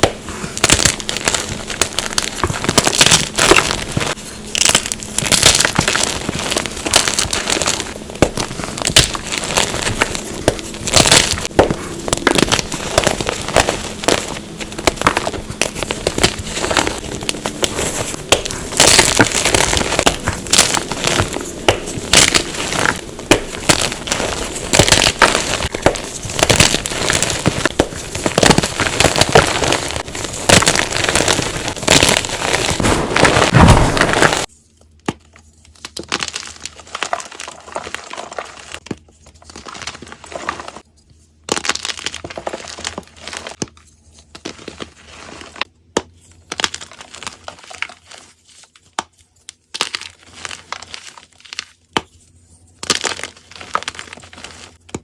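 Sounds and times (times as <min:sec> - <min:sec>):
chalk crunching and crumbling: 0:00.0 - 0:34.6, 0:35.2 - 0:55.0.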